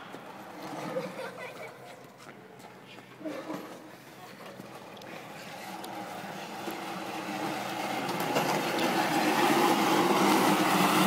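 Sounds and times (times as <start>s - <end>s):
sled scraping across asphalt: 0.0s - 2.2s, 3.2s - 11.0s.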